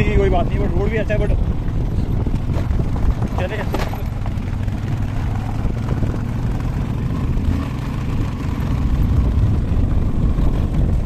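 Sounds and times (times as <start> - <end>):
motorcycle low rumble: 0.0 - 11.0.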